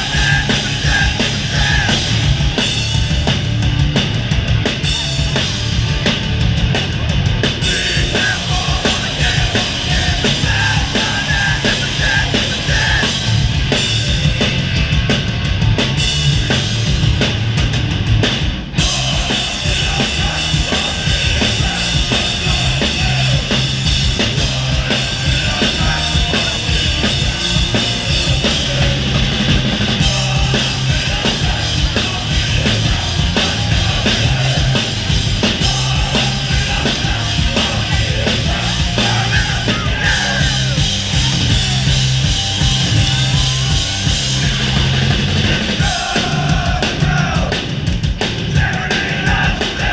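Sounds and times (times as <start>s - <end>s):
distorted electric guitars: 0.0s - 49.9s
drum kit beat: 0.0s - 49.9s
punk band playing live: 0.0s - 49.9s.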